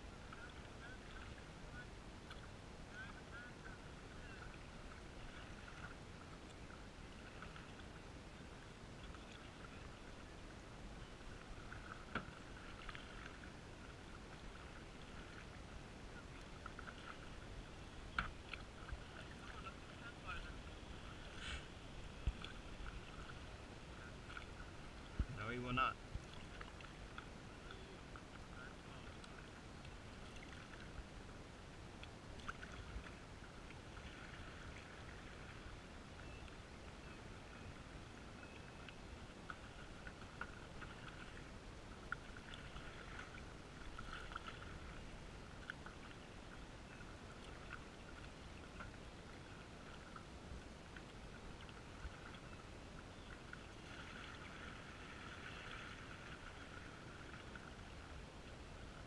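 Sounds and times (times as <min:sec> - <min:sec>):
muffled paddle splashing: 0:00.0 - 0:31.3, 0:32.0 - 0:36.6, 0:37.7 - 0:59.0.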